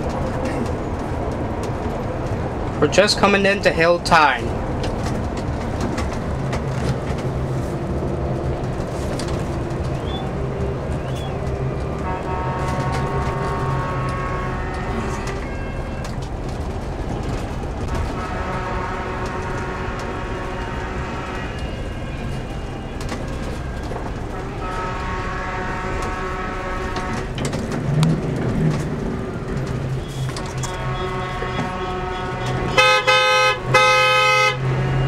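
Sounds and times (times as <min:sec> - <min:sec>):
coach diesel engine running: 0:00.0 - 0:35.0
road noise: 0:00.0 - 0:35.0.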